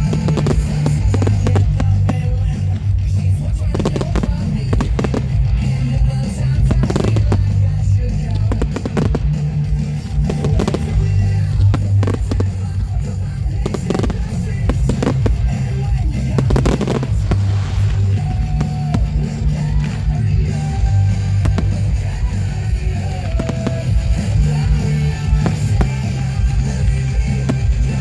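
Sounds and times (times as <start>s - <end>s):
fireworks banging and crackling: 0.0s - 28.0s
rock music with heavy bass: 0.0s - 28.0s.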